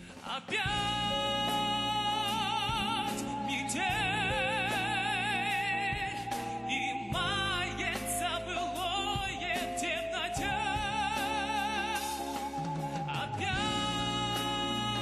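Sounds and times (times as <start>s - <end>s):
instrumental backing: 0.0s - 15.0s
man singing with vibrato: 0.1s - 15.0s.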